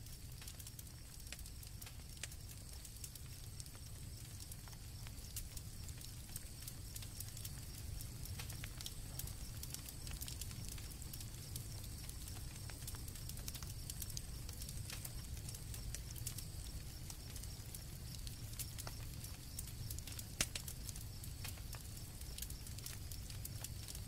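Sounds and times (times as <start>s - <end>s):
campfire crackling: 0.0s - 24.0s
crickets trilling: 0.0s - 24.0s.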